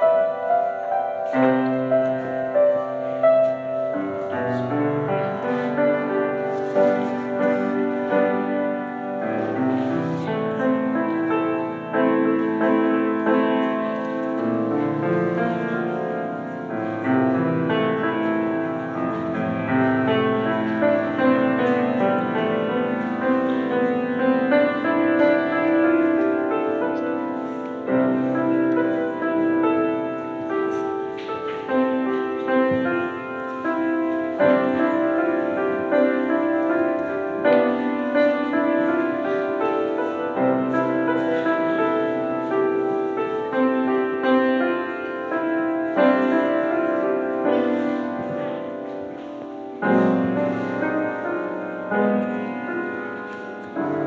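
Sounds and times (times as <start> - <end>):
piano piece: 0.0 - 54.0.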